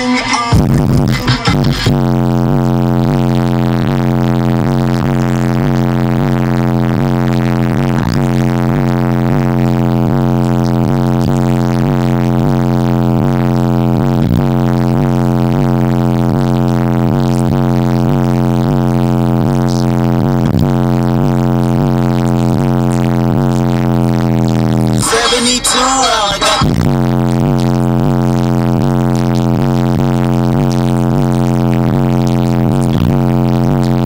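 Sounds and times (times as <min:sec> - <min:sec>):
loud music on car stereo: 0:00.0 - 0:34.0
low wobbling bass drone: 0:00.5 - 0:34.0.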